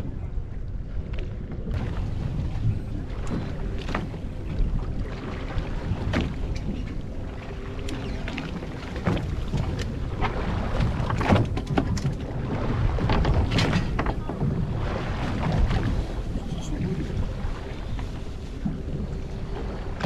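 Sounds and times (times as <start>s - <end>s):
water slapping boat hull: 0.0s - 20.0s
wind buffeting microphone: 0.0s - 20.0s.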